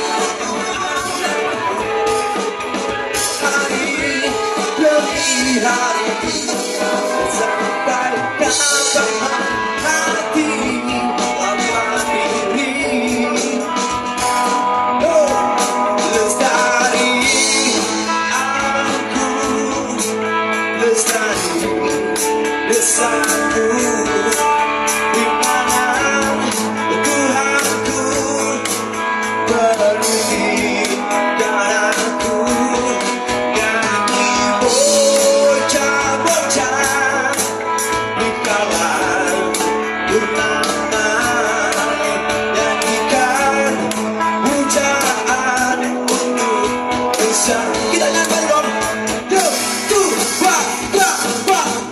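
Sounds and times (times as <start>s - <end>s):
person singing: 0.0s - 51.9s
rock band music: 0.0s - 51.9s.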